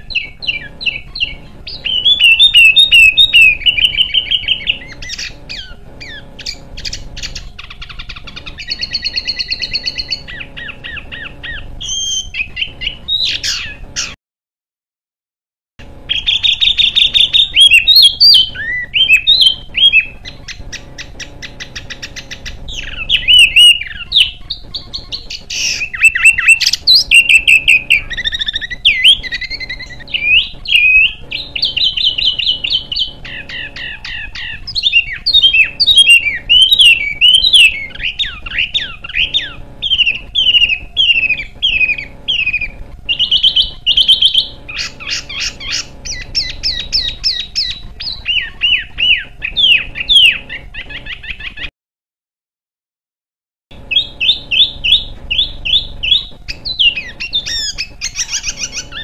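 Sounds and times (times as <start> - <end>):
songbirds chirping and trilling: 0.0 - 14.2, 15.8 - 51.7, 53.7 - 59.0.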